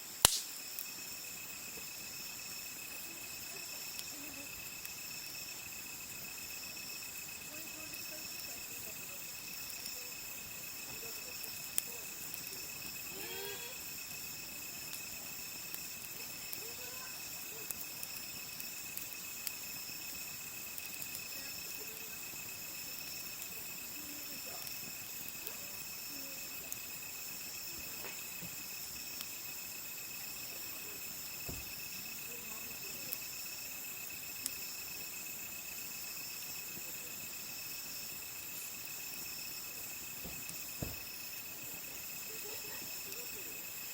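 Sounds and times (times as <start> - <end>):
campfire crackling and popping: 0.0 - 43.9
night insects chirping: 0.0 - 43.9.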